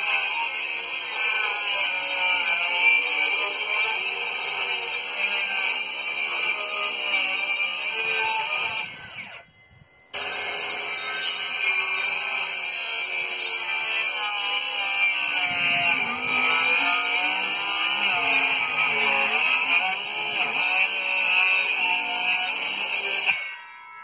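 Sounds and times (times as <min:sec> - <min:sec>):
power saw cutting wood: 0:00.0 - 0:09.5, 0:10.1 - 0:24.0.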